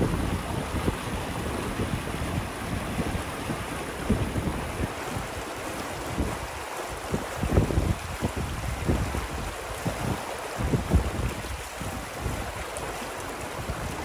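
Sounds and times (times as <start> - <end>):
stream rushing over rocks: 0.0 - 14.0
wind buffeting microphone: 0.0 - 14.0.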